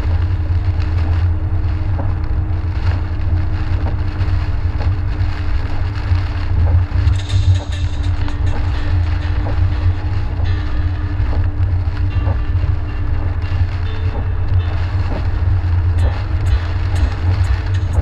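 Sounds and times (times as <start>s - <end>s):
car driving on wet road: 0.0s - 18.0s
faint steady hum: 0.0s - 18.0s.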